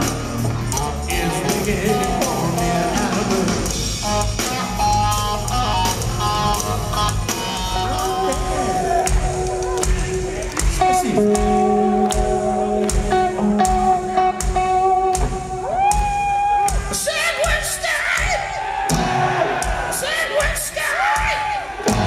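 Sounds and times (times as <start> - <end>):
drum beats: 0.0 - 22.0.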